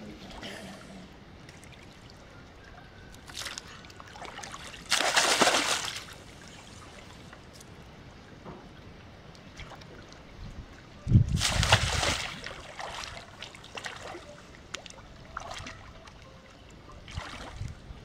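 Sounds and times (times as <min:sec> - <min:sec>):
water splashing and sloshing: 0:01.3 - 0:18.0.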